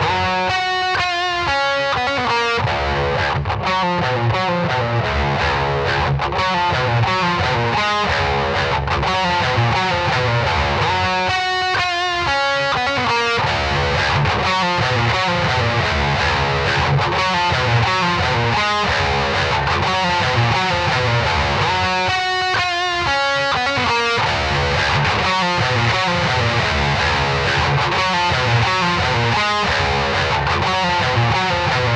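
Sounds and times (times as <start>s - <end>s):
distorted electric guitar riff: 0.0s - 31.9s.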